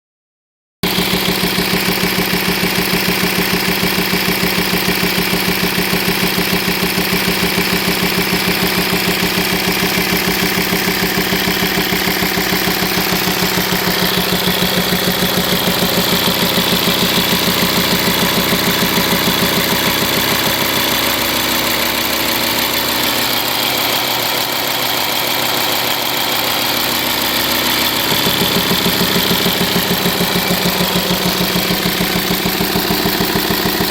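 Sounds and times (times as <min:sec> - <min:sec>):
diesel engine idling with booming miss: 0:00.8 - 0:33.9.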